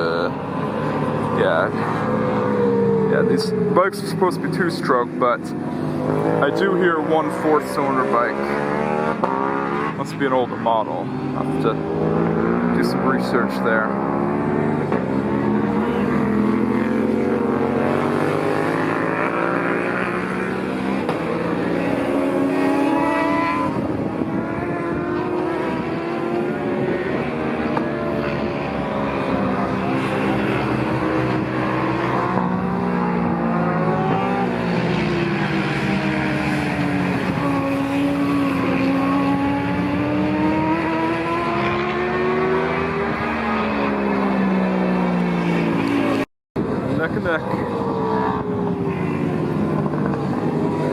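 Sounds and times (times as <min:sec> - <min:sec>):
racing motorcycles revving: 0:00.0 - 0:50.9.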